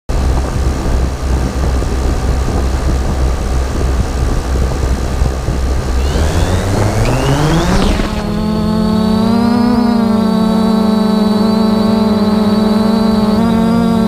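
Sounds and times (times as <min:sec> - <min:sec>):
aircraft engine droning: 0:00.1 - 0:14.0.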